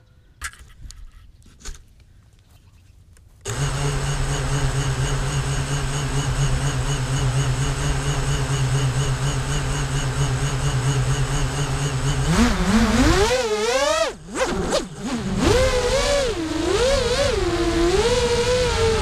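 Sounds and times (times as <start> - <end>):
quadcopter motors humming and whining: 3.5 - 19.0.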